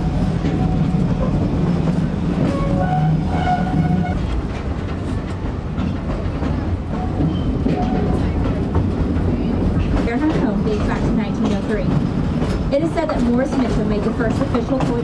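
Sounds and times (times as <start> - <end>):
train rumbling along track: 0.0 - 15.0
wheels clicking on rail: 0.1 - 15.0.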